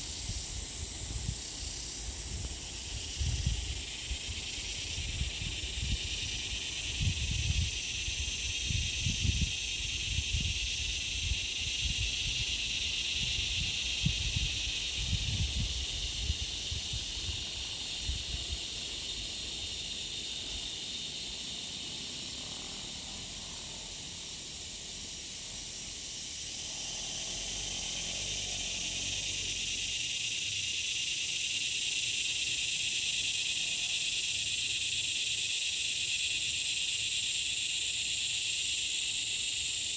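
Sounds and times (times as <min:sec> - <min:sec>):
insect chorus drone: 0:00.0 - 0:39.9
pulsing high insect trill: 0:00.0 - 0:39.9.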